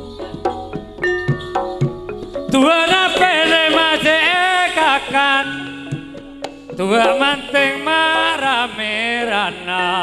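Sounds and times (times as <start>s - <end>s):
hand drum strokes: 0.0s - 9.8s
struck metal gamelan notes: 0.0s - 10.0s.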